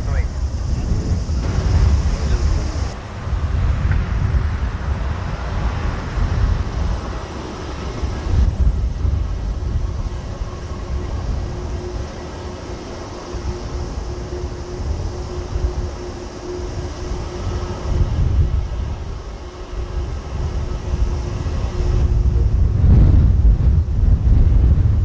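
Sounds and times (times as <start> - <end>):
distant jet engines: 0.0 - 25.0
wind buffeting microphone: 0.0 - 25.0.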